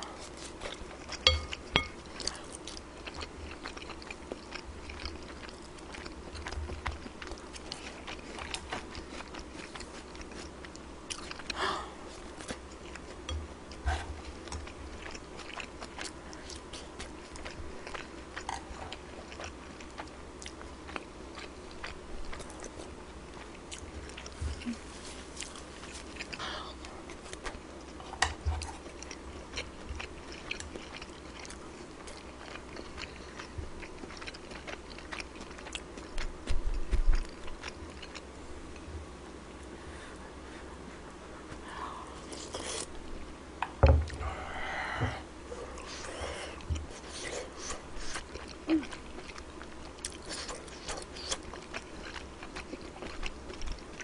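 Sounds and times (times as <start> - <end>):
chewing and mouth sounds: 0.0 - 39.0, 40.8 - 43.0, 45.6 - 54.0.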